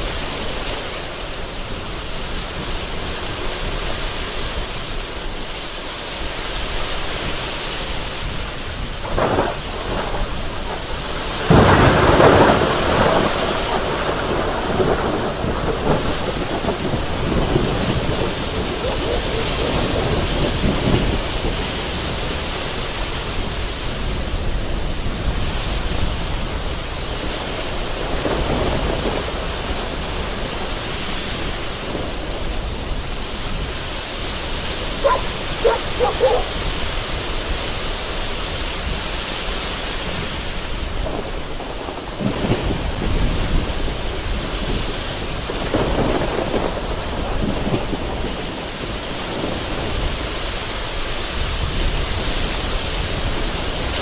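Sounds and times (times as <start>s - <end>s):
heavy rain falling: 0.0s - 54.0s
rolling thunder: 8.1s - 37.8s, 40.0s - 54.0s.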